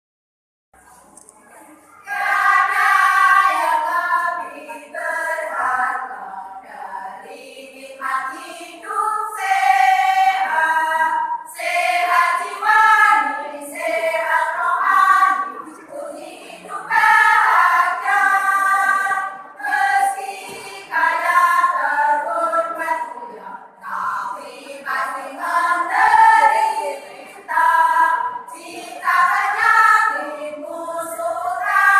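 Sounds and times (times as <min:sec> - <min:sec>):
choir singing: 0:01.9 - 0:31.9.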